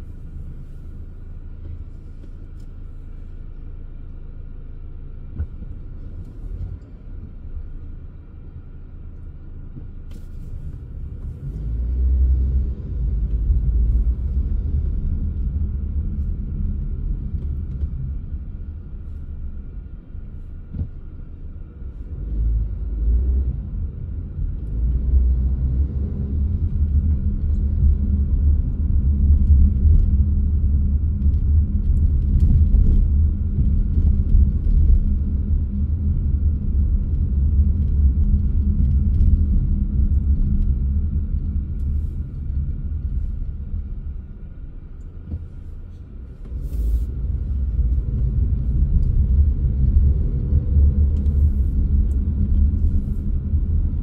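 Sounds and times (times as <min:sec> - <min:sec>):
car driving rumble from inside: 0:00.0 - 0:54.0.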